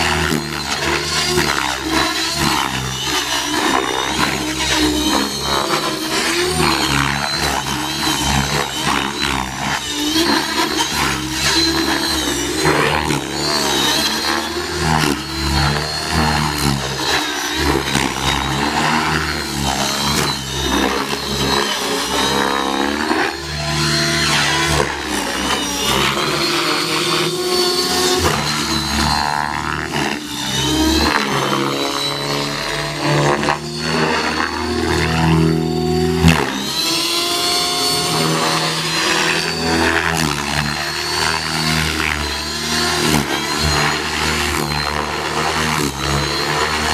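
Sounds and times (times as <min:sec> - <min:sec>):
model helicopter rotor whining: 0:00.0 - 0:46.9.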